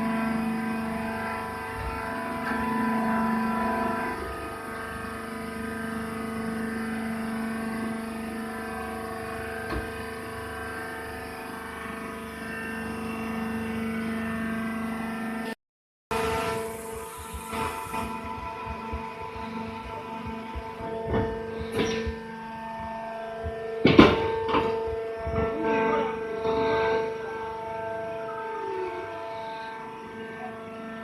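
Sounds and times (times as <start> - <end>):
hydraulic pump motor humming: 0.0 - 31.0.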